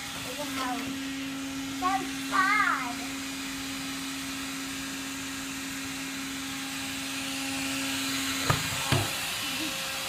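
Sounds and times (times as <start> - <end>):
stick vacuum cleaner running: 0.0 - 10.0.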